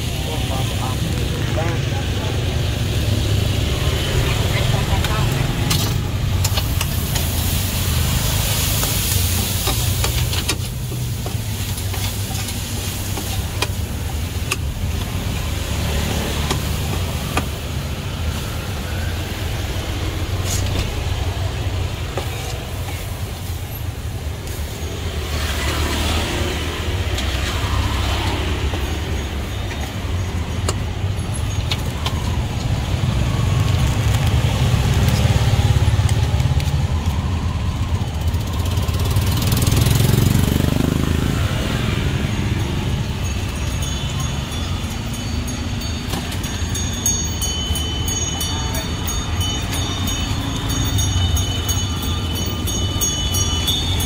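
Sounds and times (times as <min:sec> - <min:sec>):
vehicles passing with low rumble: 0:00.0 - 0:54.0.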